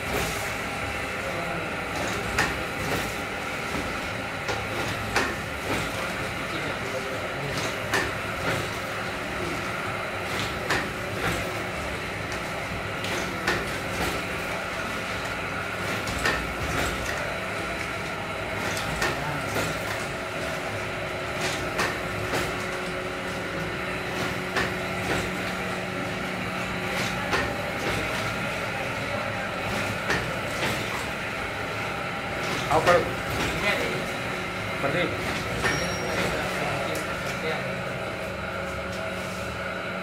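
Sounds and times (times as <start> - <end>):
machine mechanical hum: 0.0 - 40.0.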